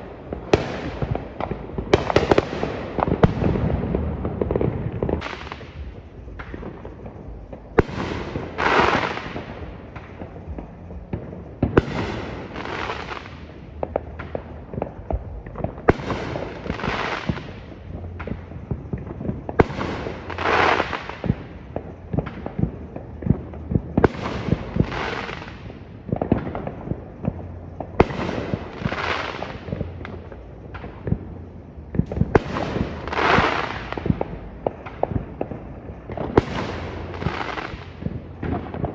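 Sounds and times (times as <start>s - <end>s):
fireworks popping and banging: 0.0s - 38.9s.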